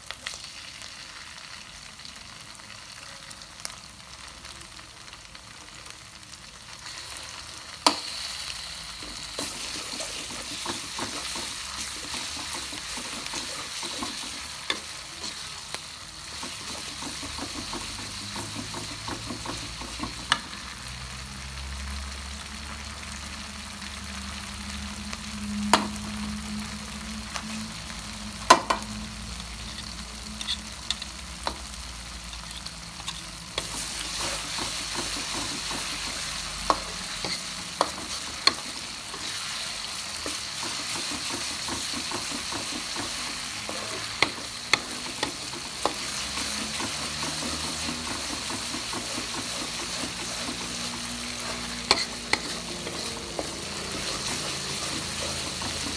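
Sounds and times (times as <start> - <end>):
chili paste sizzling in oil: 0.0 - 55.9.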